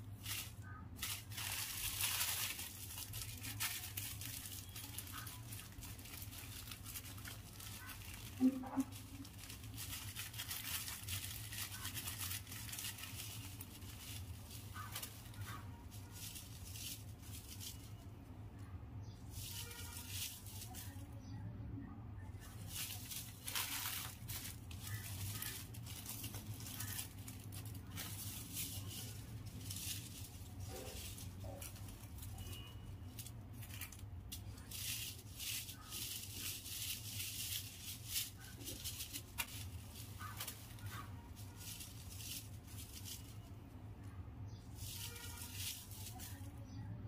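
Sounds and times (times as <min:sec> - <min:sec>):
paper firecrackers rustling: 0:00.0 - 0:21.3, 0:22.3 - 0:46.8.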